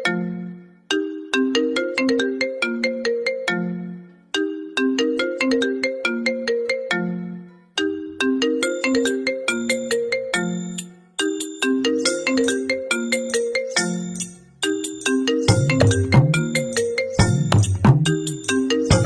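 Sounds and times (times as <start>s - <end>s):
marimba-like ringtone tune: 0.0s - 19.0s.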